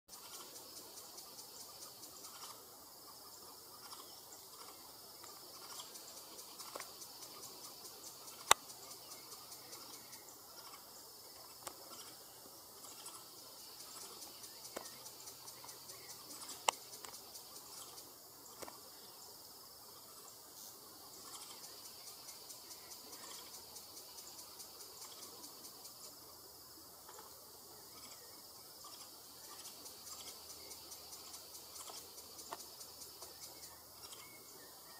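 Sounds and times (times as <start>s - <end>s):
insects buzzing: 0.0s - 34.9s.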